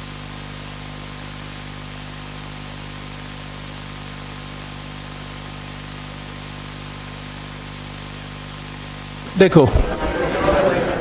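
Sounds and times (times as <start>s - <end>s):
static hiss: 0.0s - 10.1s
low electrical hum: 0.0s - 11.0s.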